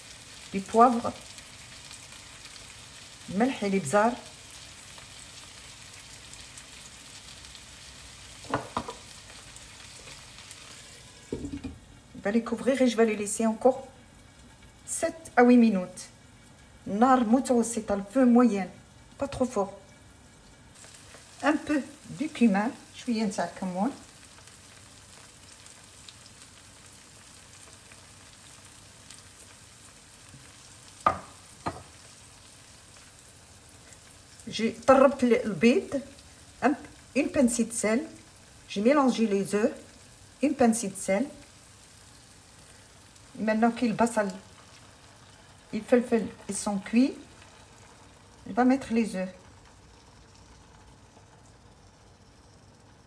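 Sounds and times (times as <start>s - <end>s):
vegetables sizzling in oil: 0.0s - 53.0s.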